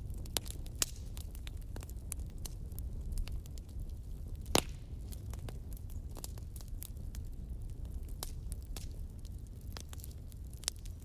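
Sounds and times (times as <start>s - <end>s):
fireplace fire crackling: 0.0s - 11.0s.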